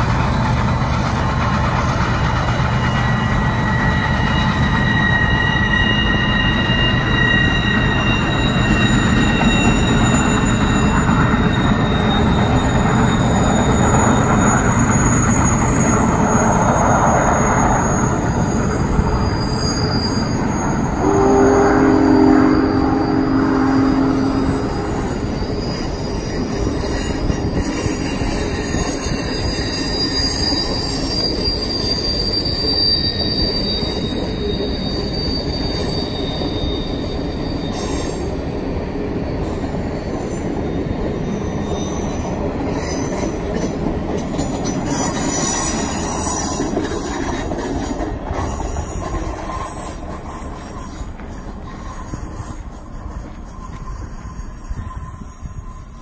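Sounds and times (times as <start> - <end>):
high-pitched wheel squeal: 0.0 - 56.0
steel wheels rumbling on rail: 0.0 - 56.0.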